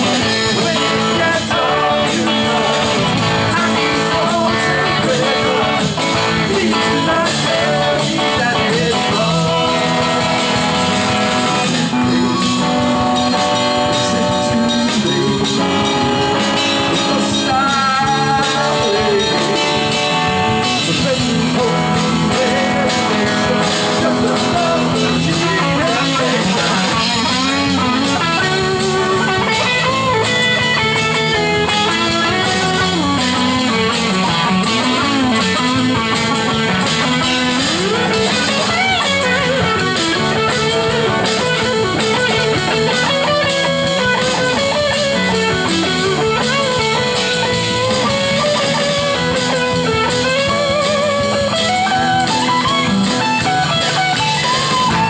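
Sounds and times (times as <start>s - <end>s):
blues-rock band playing: 0.0s - 55.0s
lead guitar bending notes: 0.0s - 55.0s.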